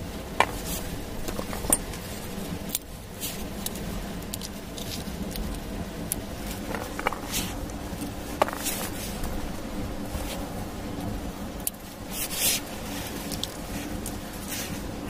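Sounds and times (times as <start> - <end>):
steady low hum: 0.0 - 15.0
soft rustles: 0.4 - 2.5, 3.1 - 5.5, 6.4 - 11.2, 11.8 - 15.0.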